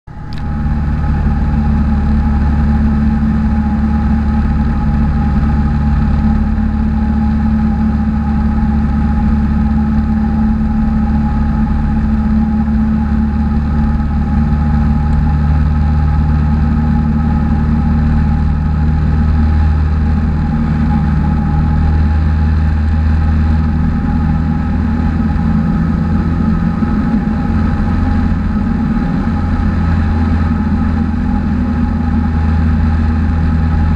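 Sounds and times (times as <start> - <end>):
light aircraft engine drone in cabin: 0.1 - 33.9.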